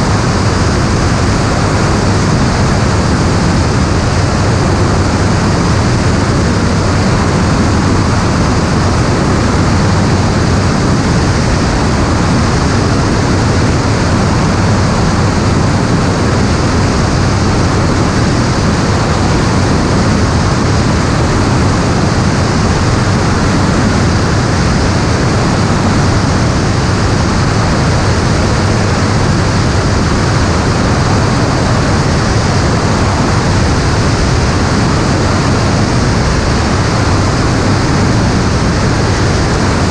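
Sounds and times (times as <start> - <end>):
aircraft engine drone in flight: 0.0 - 39.9
wind rushing: 0.0 - 39.9.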